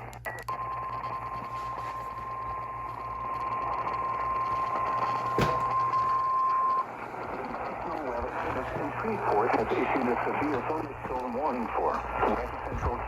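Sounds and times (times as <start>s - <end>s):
low hum: 0.0s - 13.0s
radio static hiss: 0.0s - 13.0s.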